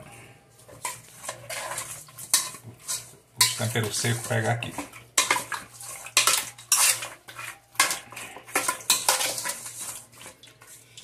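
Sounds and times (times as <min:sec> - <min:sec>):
spoon clanking in metal pot: 0:00.8 - 0:09.9.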